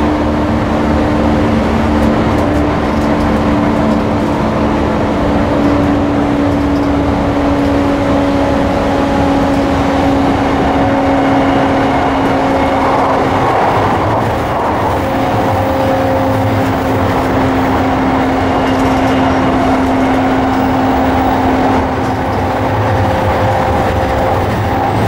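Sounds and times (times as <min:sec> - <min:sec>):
electric train motor hum: 0:00.0 - 0:25.0
wheel and rail rumble: 0:00.0 - 0:25.0.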